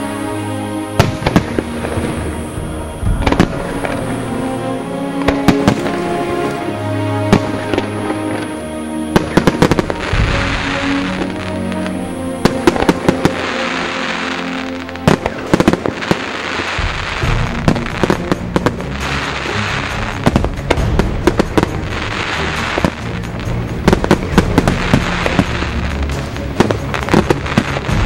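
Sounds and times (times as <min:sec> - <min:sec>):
firework crackling: 0:00.0 - 0:28.0
firework shells bursting: 0:01.0 - 0:02.4, 0:03.0 - 0:28.0.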